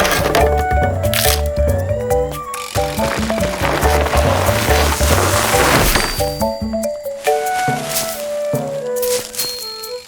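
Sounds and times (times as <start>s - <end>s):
bouncy cartoon music: 0.0s - 10.0s.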